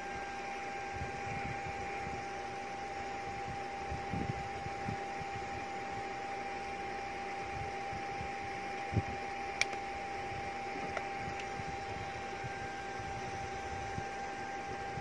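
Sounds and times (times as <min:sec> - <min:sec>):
small cooling fan whine: 0:00.0 - 0:15.0.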